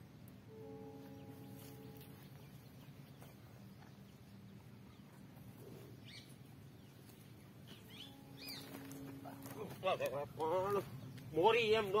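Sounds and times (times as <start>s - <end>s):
bird chirping: 0.5s - 12.0s.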